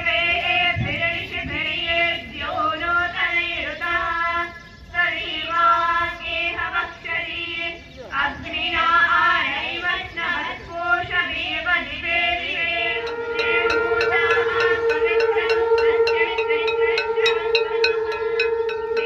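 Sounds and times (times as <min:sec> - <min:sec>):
girls singing a chant in unison: 0:00.0 - 0:19.0.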